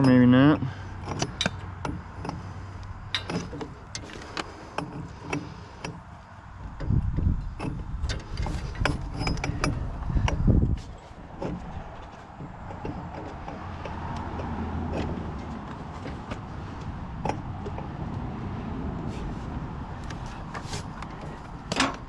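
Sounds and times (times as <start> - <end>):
low rumbles: 0.0 - 22.0
metal drive shaft clicking and clanking: 0.0 - 22.0.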